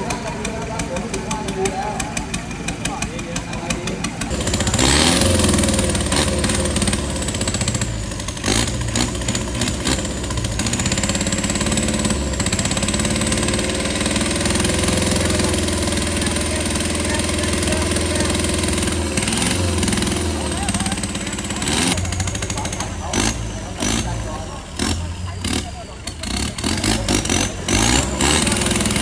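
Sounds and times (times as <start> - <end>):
truck engine at low revs: 0.0 - 29.0.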